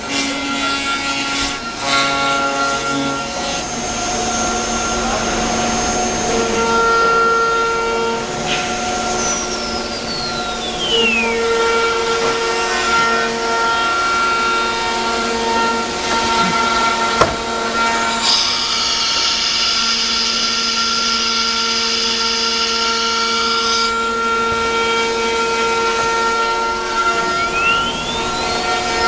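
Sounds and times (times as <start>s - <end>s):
router bit cutting wood: 0.0s - 29.0s
router spindle whining: 0.0s - 29.0s.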